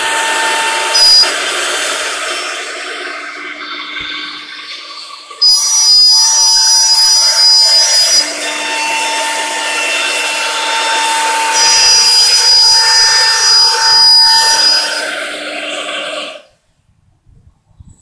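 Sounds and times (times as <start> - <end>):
router bit cutting board: 0.0 - 16.5
router spindle high whine: 0.0 - 16.5.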